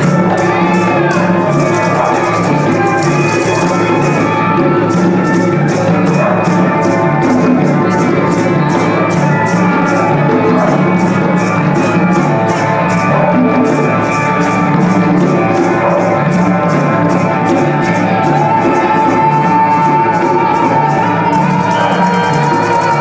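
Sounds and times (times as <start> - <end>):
percussion ensemble music: 0.0 - 23.0.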